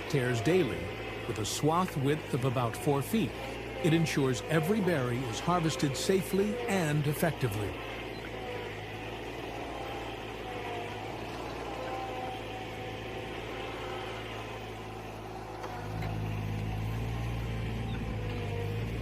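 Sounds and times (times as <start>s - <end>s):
farm machine engine running: 0.0s - 19.0s.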